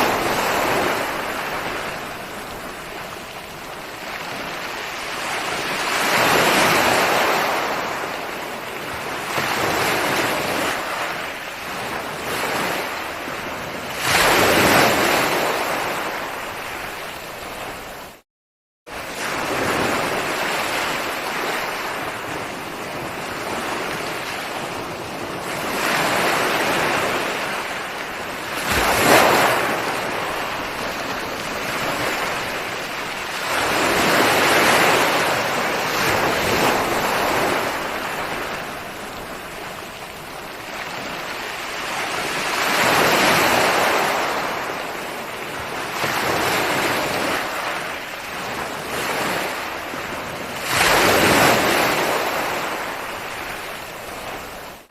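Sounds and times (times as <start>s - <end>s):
ocean waves breaking on shore: 0.0s - 18.2s, 18.9s - 54.9s.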